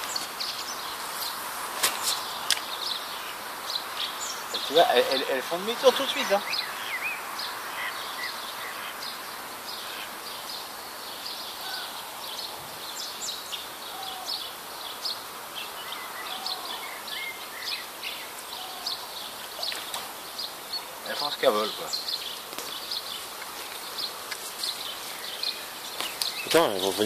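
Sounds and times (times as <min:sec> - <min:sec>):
outdoor background noise: 0:00.0 - 0:27.0
small birds chirping: 0:00.0 - 0:27.0.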